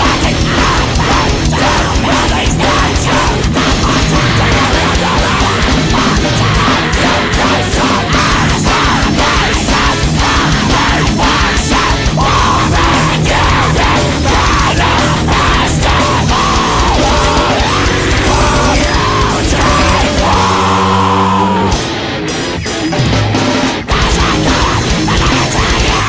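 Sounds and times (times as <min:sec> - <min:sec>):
heavy rock music: 0:00.0 - 0:26.0.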